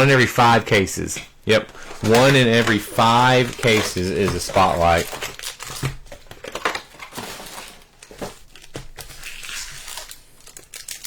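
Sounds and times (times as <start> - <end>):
cards being handled: 1.2 - 11.0
foil wrappers crinkling: 1.5 - 11.0.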